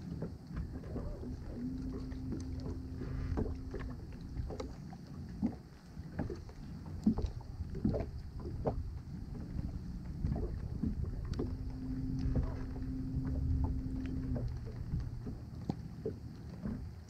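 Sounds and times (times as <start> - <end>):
steady low hum: 0.0 - 17.0
water lapping against boat hull: 0.0 - 17.0
wind rumble: 0.4 - 17.0.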